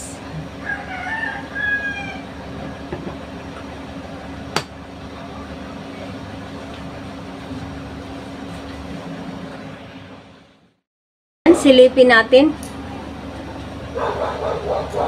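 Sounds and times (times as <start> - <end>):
low hum and hiss: 0.0 - 10.8, 11.5 - 15.0.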